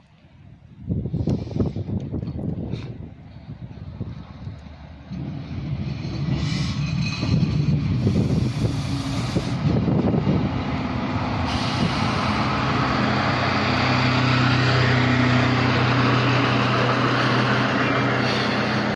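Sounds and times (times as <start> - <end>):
diesel engine drone: 0.0 - 18.9
train wheel and rail noise: 0.0 - 18.9.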